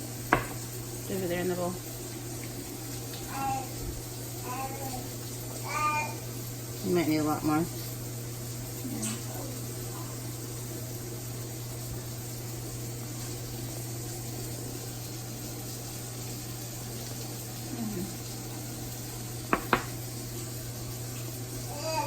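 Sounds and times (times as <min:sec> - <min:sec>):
kitchen hiss: 0:00.0 - 0:22.0.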